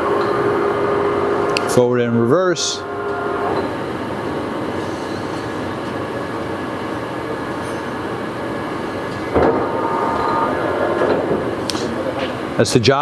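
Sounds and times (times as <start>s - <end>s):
lathe mechanical whir: 0.0s - 12.6s.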